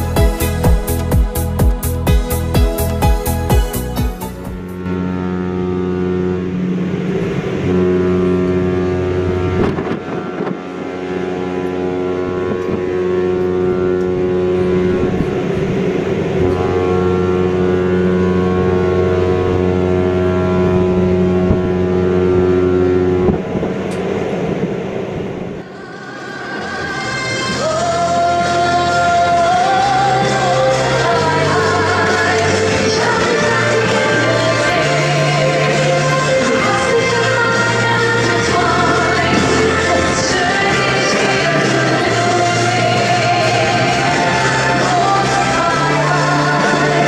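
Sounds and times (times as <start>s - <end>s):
ship horn deep blasts: 0.0s - 47.0s.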